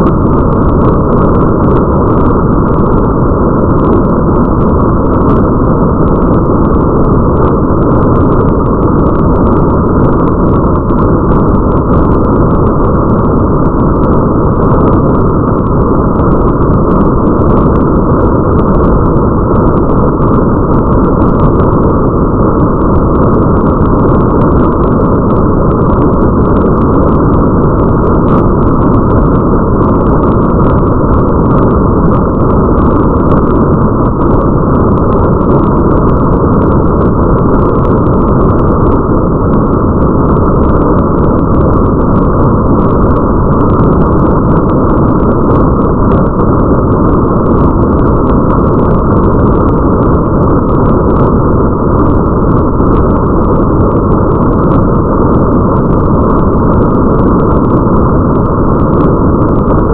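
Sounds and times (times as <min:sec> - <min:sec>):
rain drop ticks: 0:00.0 - 0:59.9
rain hiss and rumble: 0:00.0 - 0:59.9.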